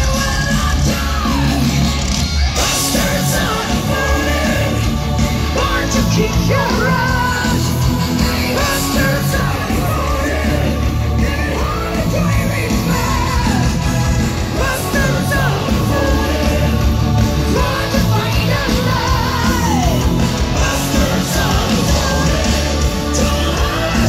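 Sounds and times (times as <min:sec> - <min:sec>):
live heavy metal band: 0:00.0 - 0:24.0.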